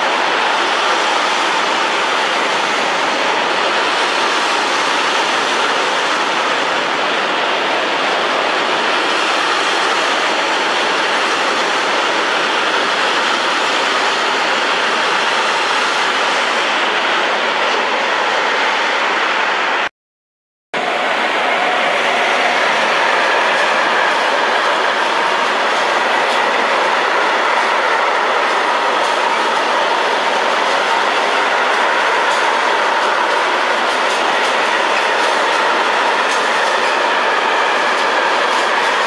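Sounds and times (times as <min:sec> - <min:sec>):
train passing at speed: 0:00.0 - 0:19.9, 0:20.8 - 0:39.0.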